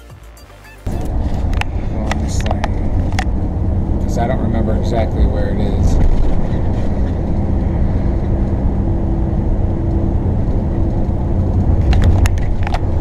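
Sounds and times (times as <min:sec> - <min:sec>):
vehicle engine and tyre rumble: 0:00.8 - 0:13.0.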